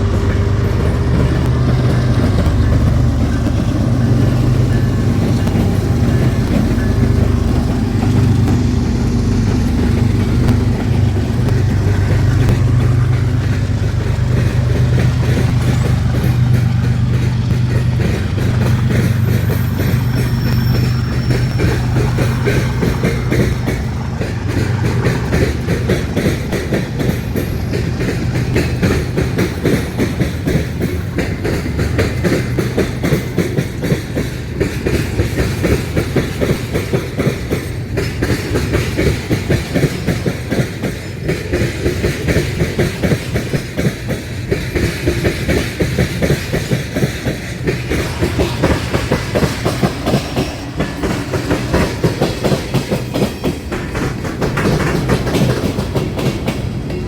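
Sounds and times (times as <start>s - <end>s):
train low rumble: 0.0s - 57.0s
train wheels clattering: 0.0s - 57.0s.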